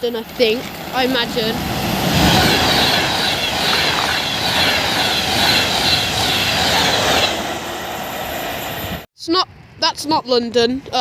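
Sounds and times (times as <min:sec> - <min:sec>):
high whining tones: 0:00.0 - 0:09.0
electric train passing: 0:00.0 - 0:09.1.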